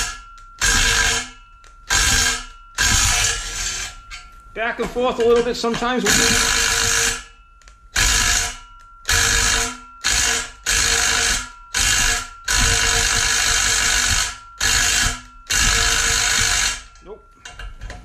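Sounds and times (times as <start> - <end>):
impact driver hammering: 0.0 - 4.0, 5.2 - 7.3, 8.0 - 16.9.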